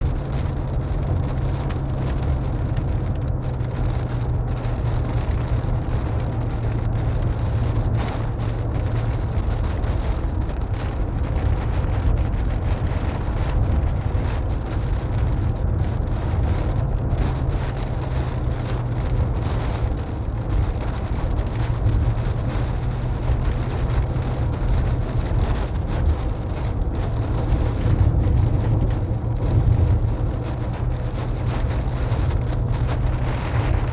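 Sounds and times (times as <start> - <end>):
low road rumble: 0.0 - 33.9
rain and wet tyres hissing: 0.0 - 33.9.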